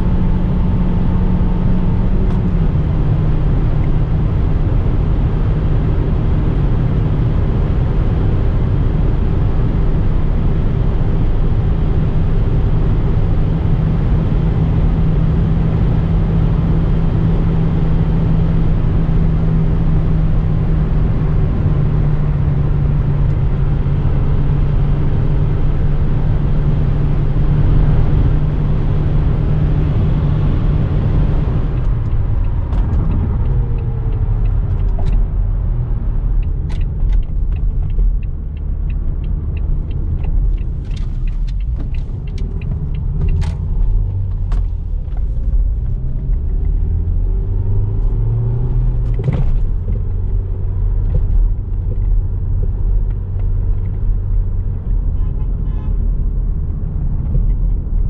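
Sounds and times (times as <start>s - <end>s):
car engine hum: 0.0s - 58.0s
road and wind noise: 0.0s - 58.0s.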